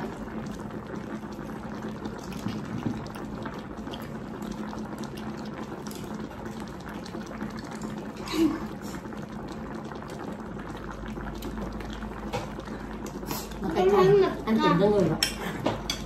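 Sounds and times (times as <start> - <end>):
broth bubbling at a boil: 0.0 - 16.0.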